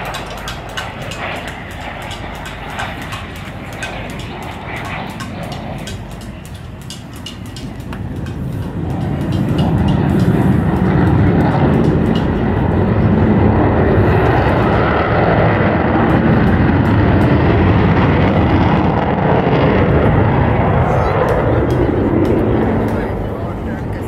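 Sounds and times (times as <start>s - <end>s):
jet aircraft roar: 0.0s - 24.0s.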